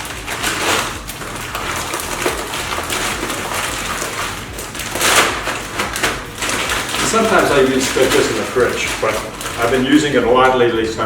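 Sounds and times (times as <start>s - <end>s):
plastic bag rustling: 0.0s - 11.0s.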